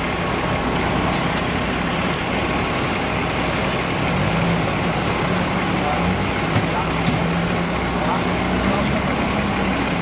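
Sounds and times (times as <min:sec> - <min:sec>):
truck engines idling: 0:00.0 - 0:10.0.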